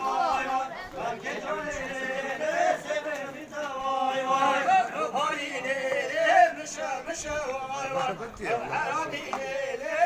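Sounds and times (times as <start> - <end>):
man singing chant-like melody: 0.0 - 10.0.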